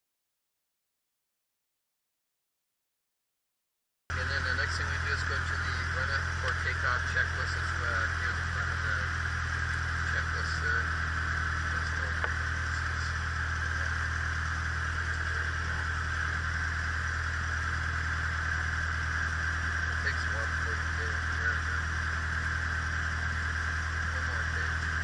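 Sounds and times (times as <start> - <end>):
small plane engine idling: 4.1 - 25.0.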